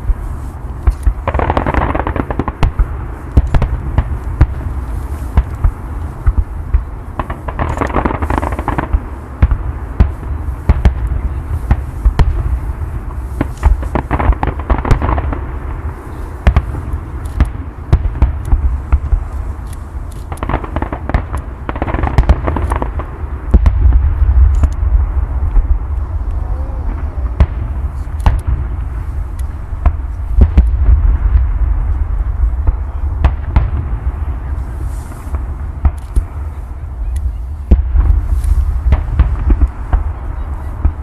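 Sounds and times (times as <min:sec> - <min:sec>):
fireworks bangs: 0:00.0 - 0:41.0
low rumble: 0:00.0 - 0:41.0.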